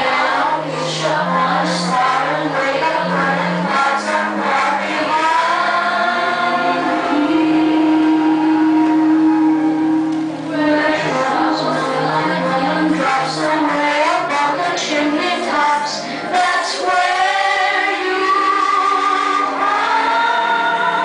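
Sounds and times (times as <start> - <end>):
young voices singing together: 0.0 - 21.0.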